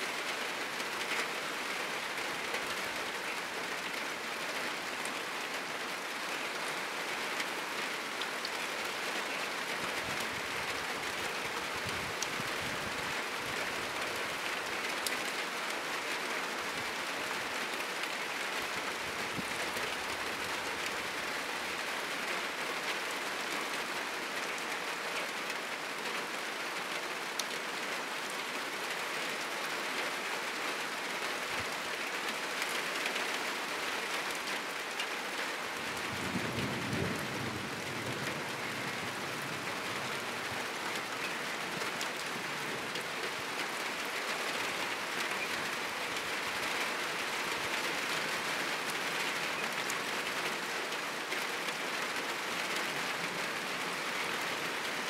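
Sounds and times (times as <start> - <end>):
heavy rain on a corrugated roof: 0.0 - 55.0.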